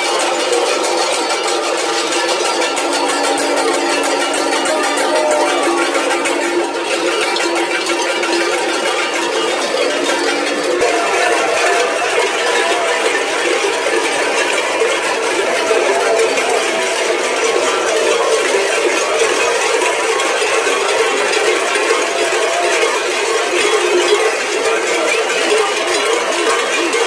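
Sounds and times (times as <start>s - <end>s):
large bells clanging: 0.0s - 27.0s.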